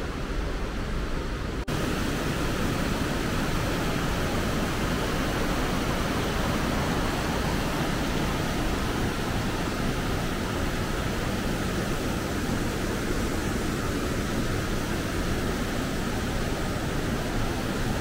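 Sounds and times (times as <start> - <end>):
stream rushing over rocks: 1.7 - 18.0.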